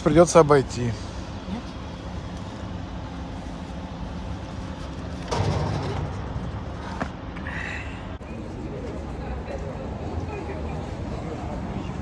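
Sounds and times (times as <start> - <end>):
low steady outdoor rumble: 0.0 - 12.0.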